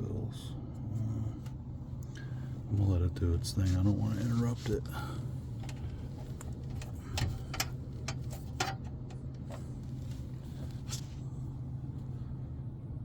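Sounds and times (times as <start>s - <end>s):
humidifier humming: 0.0s - 13.0s.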